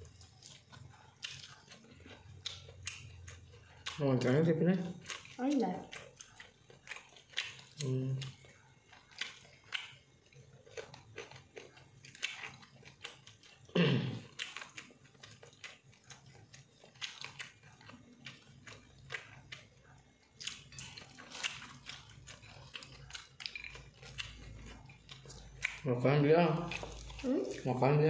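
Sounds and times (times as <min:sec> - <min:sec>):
person chewing and biting: 0:00.0 - 0:28.0.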